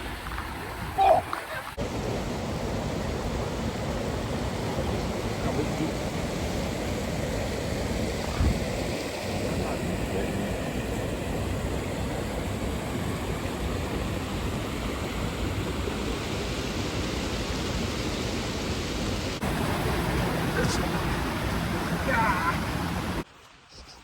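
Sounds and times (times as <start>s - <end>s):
waterfall rushing roar: 0.6s - 23.2s.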